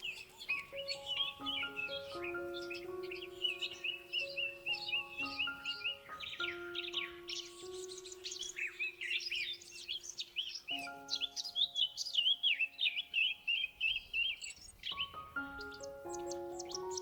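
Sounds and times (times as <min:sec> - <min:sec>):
birds chirping and singing: 0:00.0 - 0:17.0
soft music of held notes: 0:00.0 - 0:17.0.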